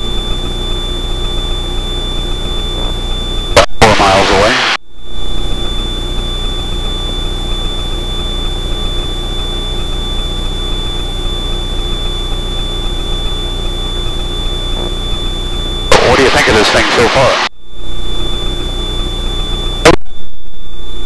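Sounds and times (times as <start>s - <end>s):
propeller plane engine droning: 0.0s - 19.9s
thin high whine: 0.0s - 21.0s.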